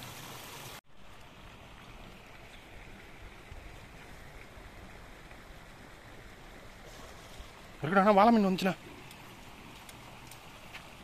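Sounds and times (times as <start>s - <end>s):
faint river water rushing: 0.0s - 11.0s.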